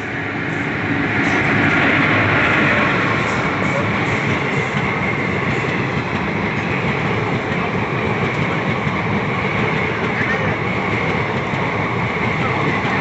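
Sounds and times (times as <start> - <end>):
train coaches passing at speed: 0.0 - 13.0.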